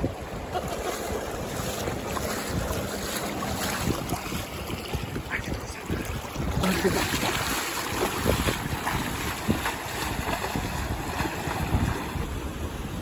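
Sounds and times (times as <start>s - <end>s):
river water splashing: 0.0s - 13.0s
wind buffeting microphone: 0.0s - 13.0s.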